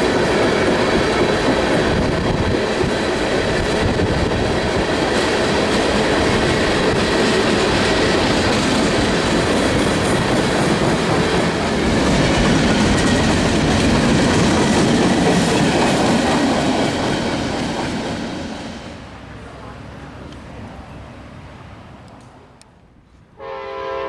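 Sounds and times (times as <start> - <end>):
train wheels on rails: 0.0 - 23.6.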